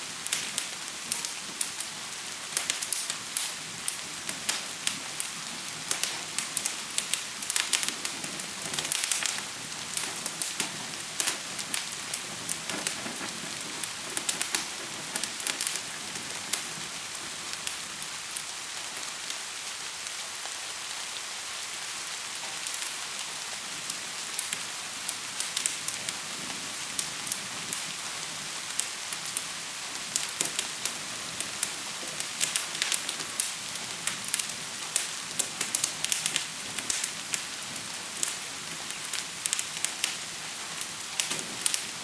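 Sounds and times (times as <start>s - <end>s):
fire crackling and popping: 0.0s - 42.0s
gentle rain hiss: 0.0s - 42.0s.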